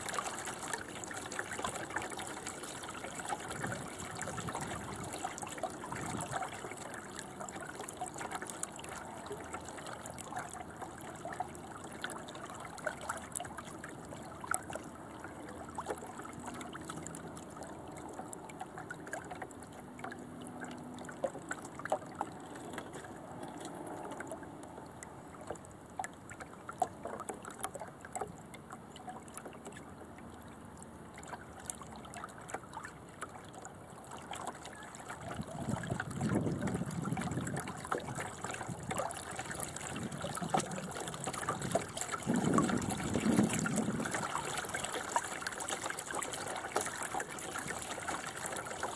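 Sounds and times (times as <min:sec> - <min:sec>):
small splashes and ticks: 0:00.0 - 0:48.9
water trickling along a hull: 0:00.0 - 0:48.9.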